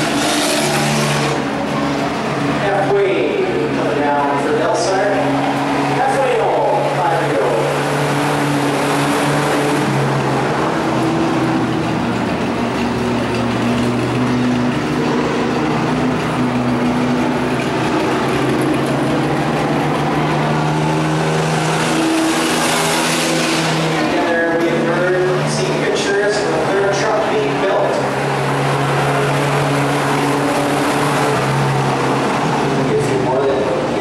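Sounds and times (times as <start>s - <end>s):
truck engine running at speed: 0.0s - 34.0s.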